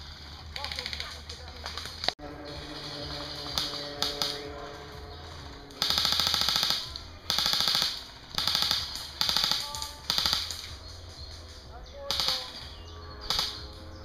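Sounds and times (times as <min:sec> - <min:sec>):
airsoft rifles firing bursts: 0:00.0 - 0:14.0.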